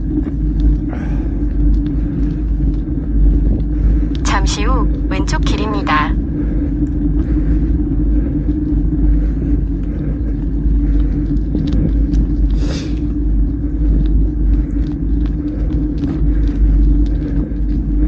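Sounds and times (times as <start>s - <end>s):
bike tyres rolling: 0.0s - 4.1s, 6.2s - 18.0s
constant hum: 0.0s - 18.0s
wind rumble: 0.0s - 18.0s.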